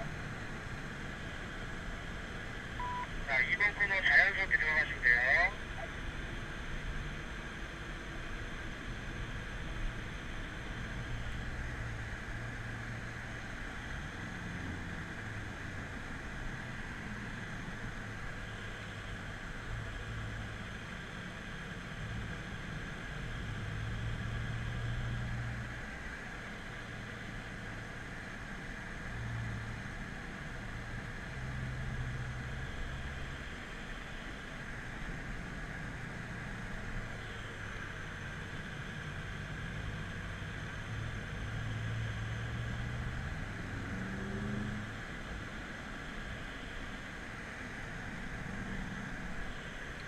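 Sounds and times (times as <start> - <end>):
car engine hum: 0.0 - 50.0
road and wind noise: 0.0 - 50.0.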